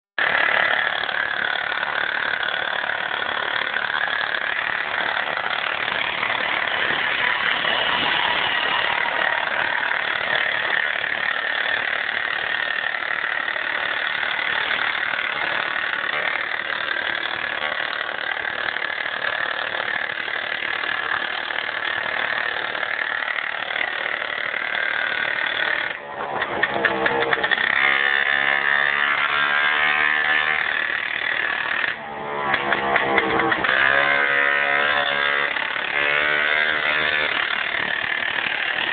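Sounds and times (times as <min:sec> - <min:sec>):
moped engine buzzing: 0:00.2 - 0:38.9.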